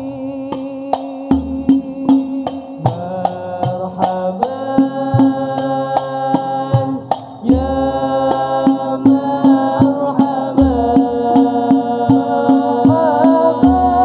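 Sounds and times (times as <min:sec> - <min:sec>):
frame drums beating: 0:00.0 - 0:14.0
young male voices singing in unison: 0:00.0 - 0:14.0.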